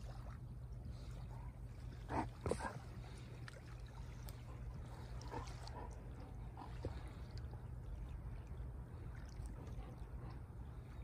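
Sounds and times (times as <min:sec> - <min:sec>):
faint splashes: 0:00.0 - 0:11.0
small waves lapping at shore: 0:00.0 - 0:11.0.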